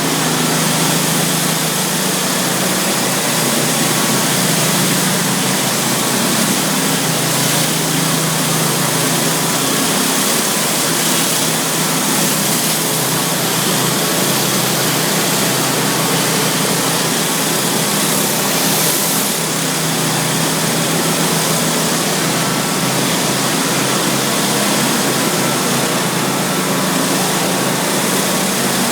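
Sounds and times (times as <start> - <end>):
high-pressure water spray hiss: 0.0 - 28.9
pressure washer engine hum: 0.0 - 28.9.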